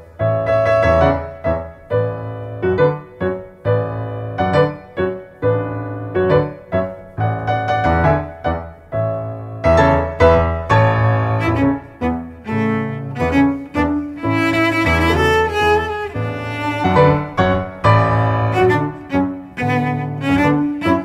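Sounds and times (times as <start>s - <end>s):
piano notes: 0.0s - 21.0s.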